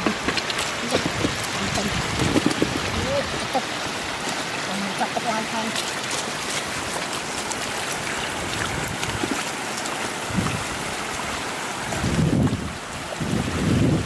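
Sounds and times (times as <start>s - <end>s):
water rushing over road: 0.0s - 14.0s.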